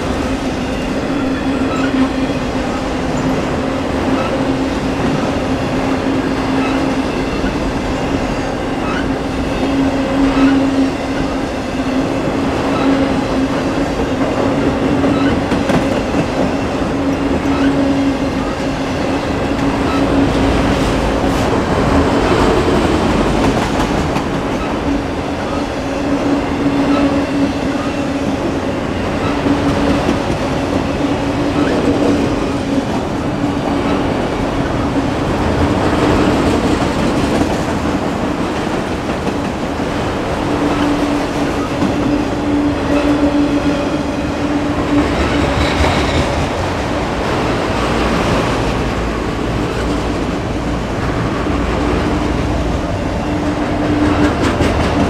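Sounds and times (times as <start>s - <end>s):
steel wheels clattering on rail: 0.0s - 55.0s.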